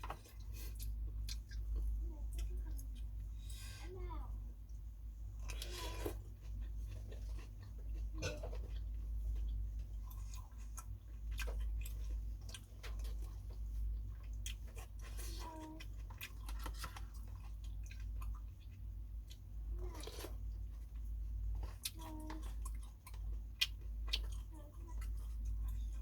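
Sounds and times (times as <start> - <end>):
person chewing noodles: 0.0 - 3.8, 4.7 - 26.0
steady low hum: 0.0 - 26.0.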